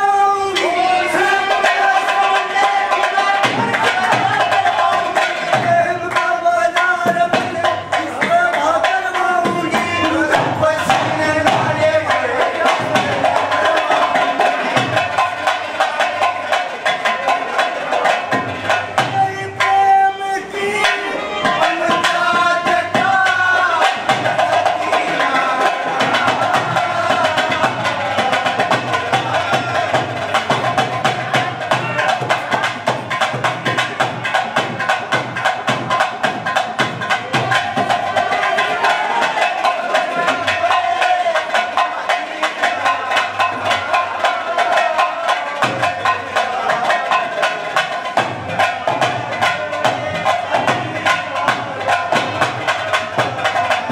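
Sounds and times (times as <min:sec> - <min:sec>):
fast hand drum rhythm: 0:00.0 - 0:53.9.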